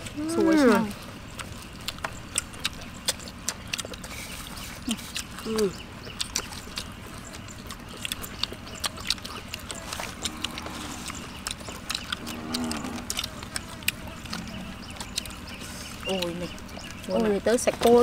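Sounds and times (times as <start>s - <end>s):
low animal calls: 0.0s - 17.2s.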